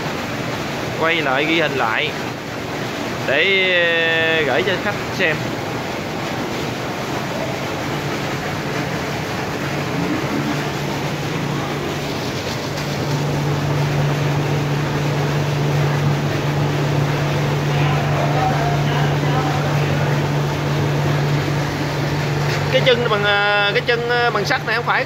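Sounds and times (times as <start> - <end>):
water jet rushing and splashing: 0.0 - 25.0
water pump motor humming: 0.0 - 25.0.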